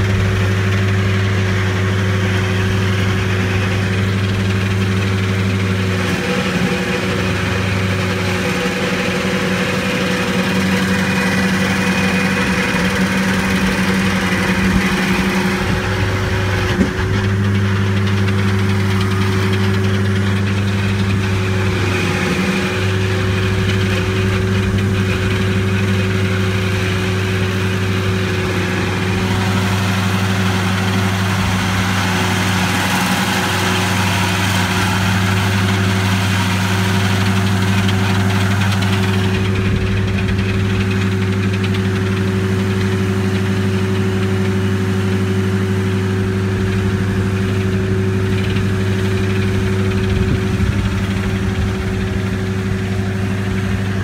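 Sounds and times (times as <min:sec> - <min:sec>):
stump grinder engine running: 0:00.0 - 0:54.0.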